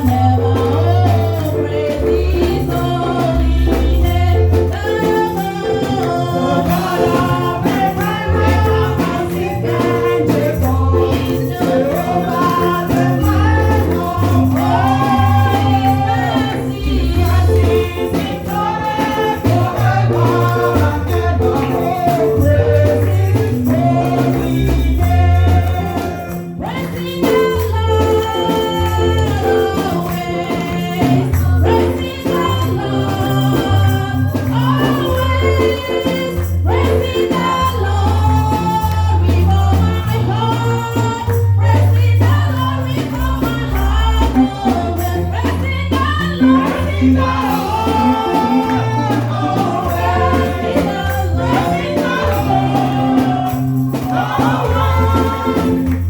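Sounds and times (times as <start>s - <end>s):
tambourine and shaker: 0.0s - 56.0s
voices singing gospel: 0.0s - 56.0s.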